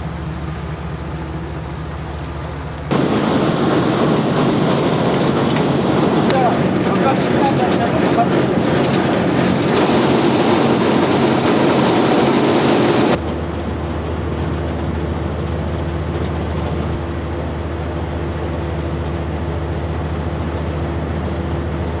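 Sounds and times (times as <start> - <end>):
low engine drone: 0.0 - 22.0
ship wake rushing: 0.0 - 22.0.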